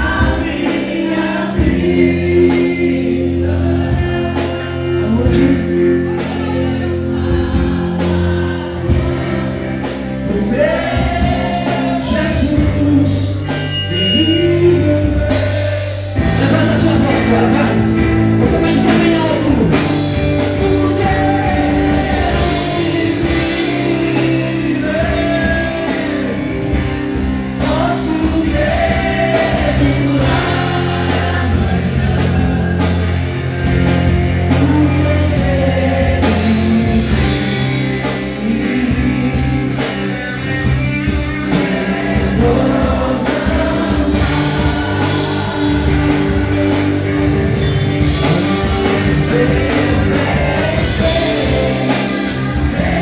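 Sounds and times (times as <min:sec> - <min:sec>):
band with guitar and drums: 0:00.0 - 0:53.0
person singing: 0:00.0 - 0:53.0.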